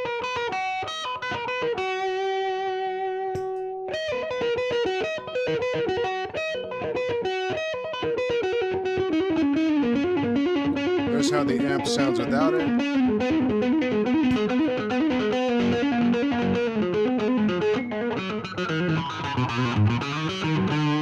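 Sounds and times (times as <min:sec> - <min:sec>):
electric guitar lead lines: 0:00.0 - 0:21.0.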